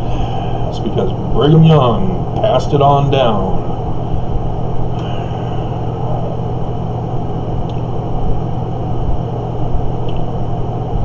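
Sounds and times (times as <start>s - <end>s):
rumbling noise: 0.0s - 11.0s
steady low hum: 0.0s - 11.0s.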